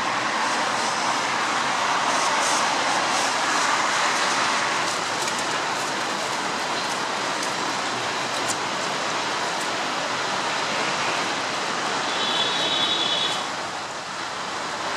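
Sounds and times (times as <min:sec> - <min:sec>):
road traffic rushing past: 0:00.0 - 0:14.9.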